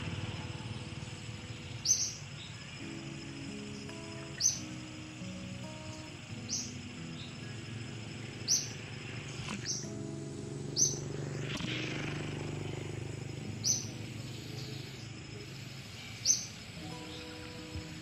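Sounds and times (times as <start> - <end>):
bird chirping: 0.0 - 18.0
low outdoor hum: 0.0 - 18.0.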